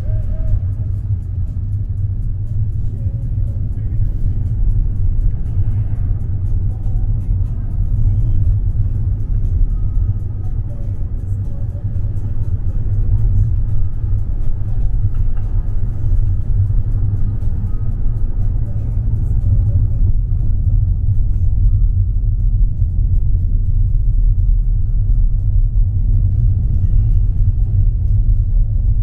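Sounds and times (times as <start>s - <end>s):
car road rumble from inside: 0.0s - 29.0s.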